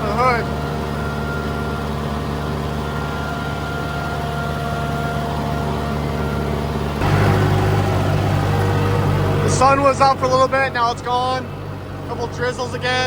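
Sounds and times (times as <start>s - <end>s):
tractor engine mowing: 0.0s - 13.0s.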